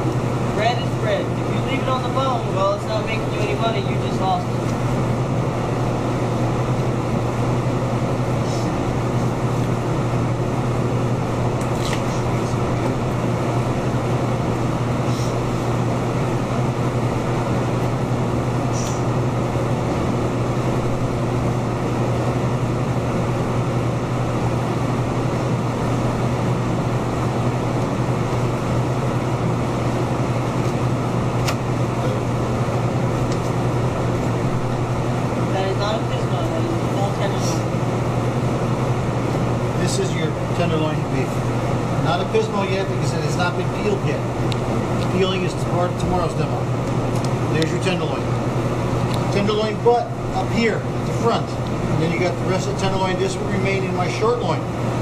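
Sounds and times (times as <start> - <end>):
mechanical hum with low drone: 0.0 - 55.0.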